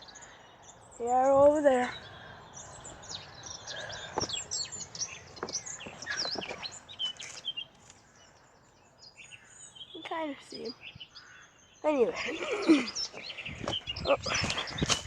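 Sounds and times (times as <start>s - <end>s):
birds chirping and singing: 0.0s - 15.0s.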